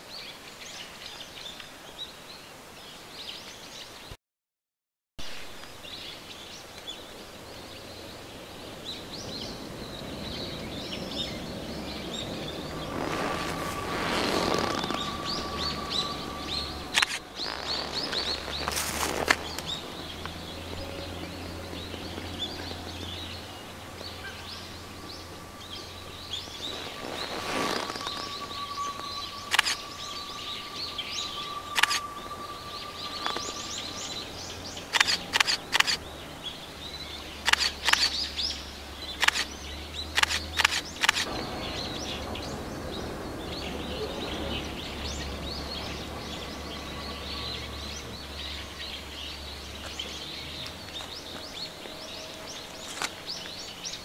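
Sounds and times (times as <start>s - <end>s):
steady high whine: 5.5s - 54.0s
small birds chirping: 5.7s - 54.0s
distant train rumble: 6.6s - 54.0s.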